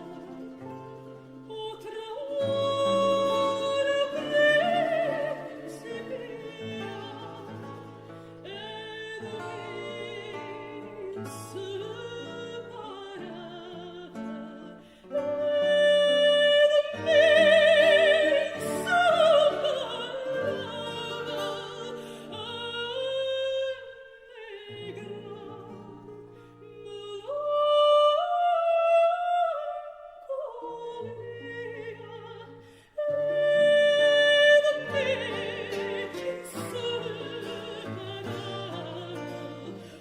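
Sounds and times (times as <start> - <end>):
person singing with vibrato: 0.0 - 40.0.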